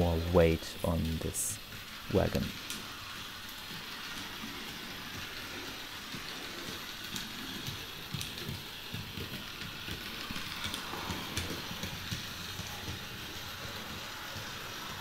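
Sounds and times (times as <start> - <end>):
model train whirring rumble: 0.0 - 15.0
small irregular clicks: 1.0 - 15.0.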